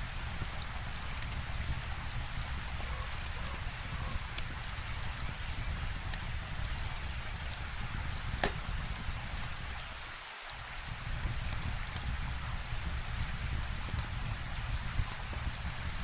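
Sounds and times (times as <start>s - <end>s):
steady rain falling: 0.0s - 16.0s
wood fire crackling and popping: 0.0s - 16.0s.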